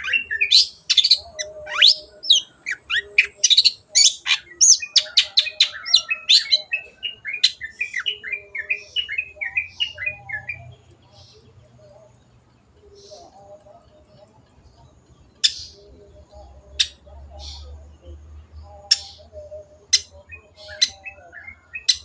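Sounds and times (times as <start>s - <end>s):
bird singing chirps and trills: 0.0s - 22.0s.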